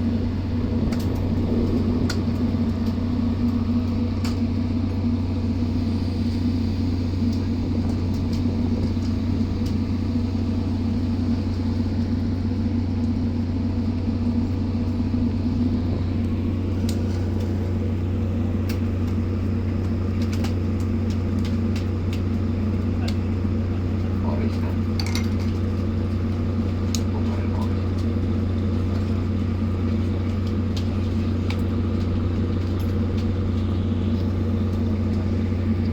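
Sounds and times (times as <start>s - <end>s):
boat engine droning: 0.0s - 35.9s.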